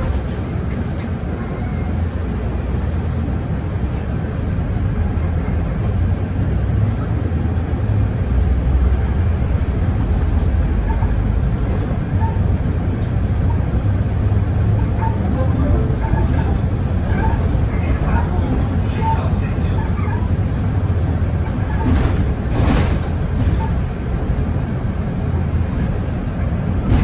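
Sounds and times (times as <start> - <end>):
bus engine rumble: 0.0 - 27.0
road noise: 0.0 - 27.0.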